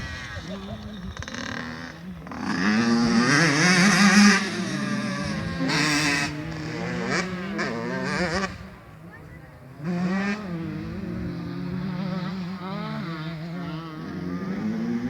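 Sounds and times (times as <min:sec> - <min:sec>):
two-stroke motocross bikes revving: 0:00.0 - 0:15.0.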